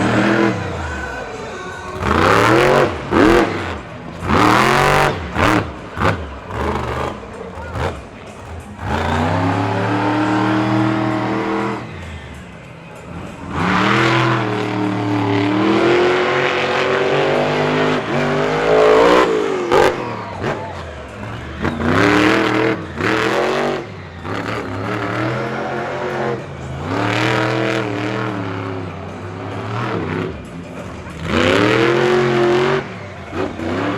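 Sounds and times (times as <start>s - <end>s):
monster truck engine revving: 0.0s - 33.9s.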